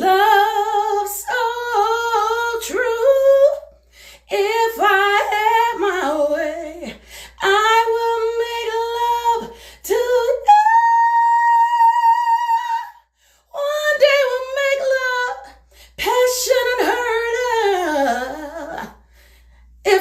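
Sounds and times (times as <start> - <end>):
woman singing soulful vocal runs: 0.0 - 19.1, 19.8 - 20.0.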